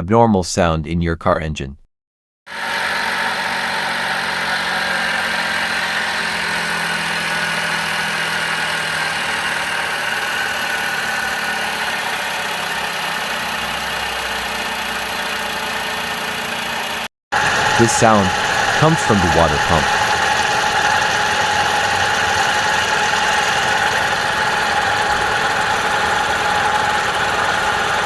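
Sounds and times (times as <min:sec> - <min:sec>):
loose water pump noise: 0:02.5 - 0:28.0
car engine idling: 0:02.6 - 0:28.0.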